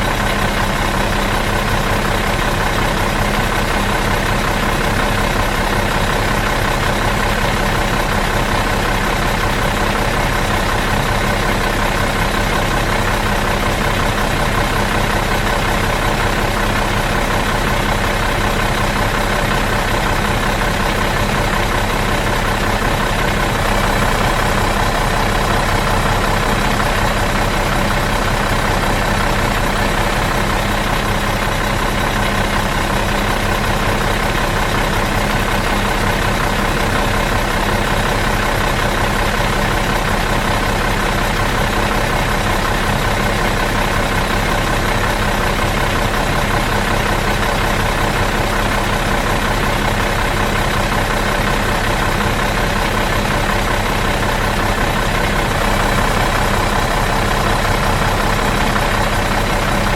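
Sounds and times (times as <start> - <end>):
bus engine idling: 0.0 - 59.9.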